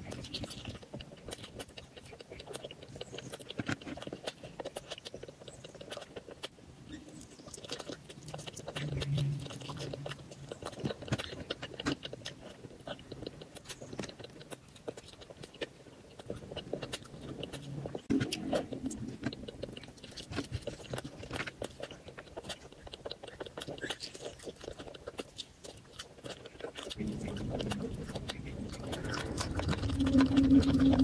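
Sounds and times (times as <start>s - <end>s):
chewing and wet mouth sounds: 0.0s - 31.0s.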